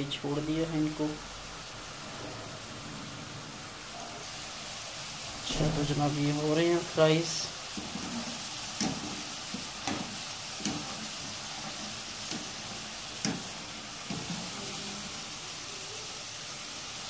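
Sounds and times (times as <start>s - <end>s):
fries sizzling in hot oil: 0.0s - 17.0s.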